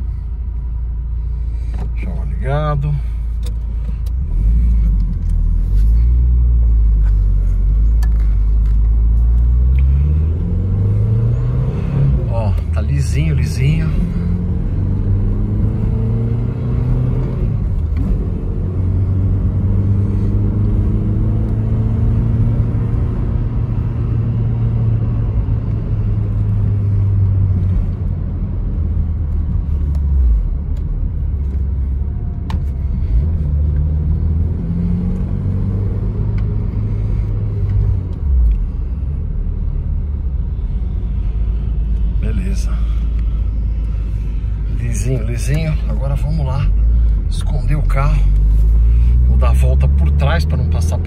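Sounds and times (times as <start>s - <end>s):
car engine changing gears: 3.0s - 51.0s.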